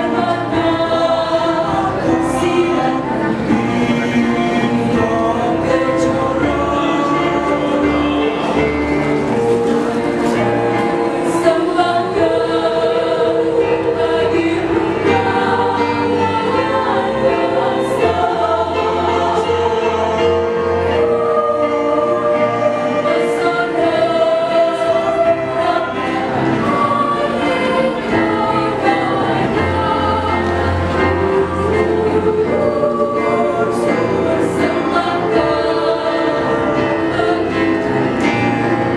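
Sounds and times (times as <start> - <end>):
choir singing sustained chords: 0.0 - 38.9.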